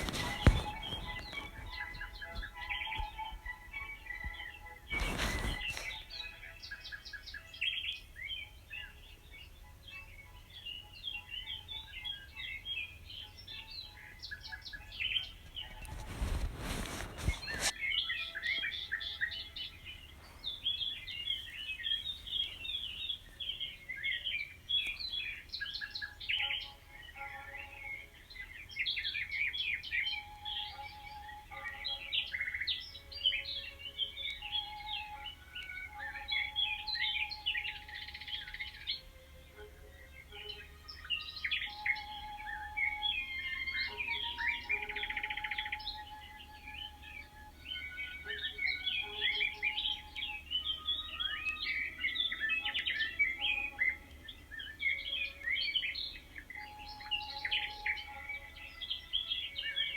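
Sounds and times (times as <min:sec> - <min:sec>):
small birds chirping and singing: 0:00.0 - 0:59.9.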